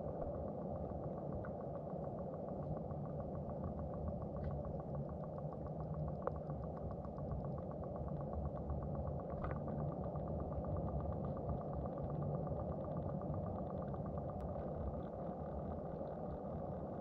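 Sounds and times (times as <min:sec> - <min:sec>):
underwater mechanical drone: 0:00.0 - 0:17.0.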